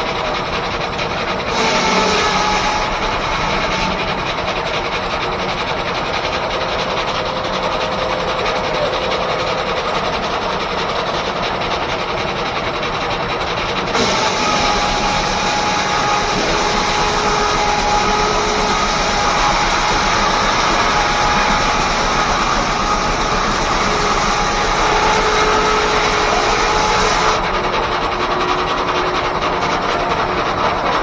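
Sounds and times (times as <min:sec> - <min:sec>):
sawmill mechanical rumble: 0:00.0 - 0:31.0.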